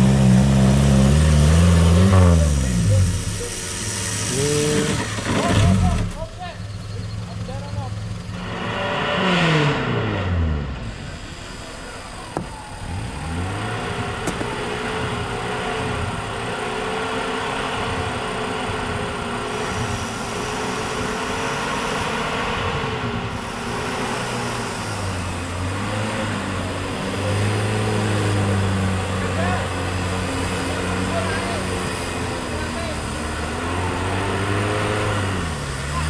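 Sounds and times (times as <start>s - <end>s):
engine revving: 0.0s - 36.0s.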